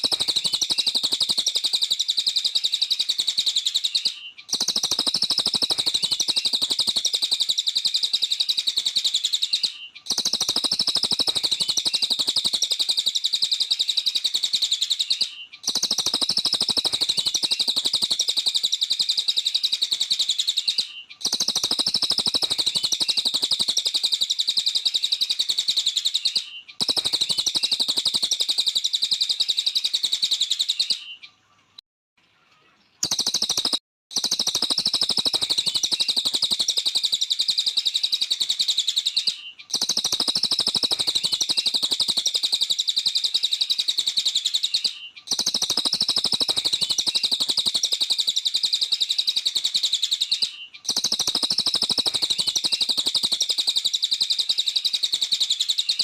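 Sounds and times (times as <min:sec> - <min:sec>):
bird high-pitched chatter: 0:00.0 - 0:31.4, 0:32.6 - 0:56.0.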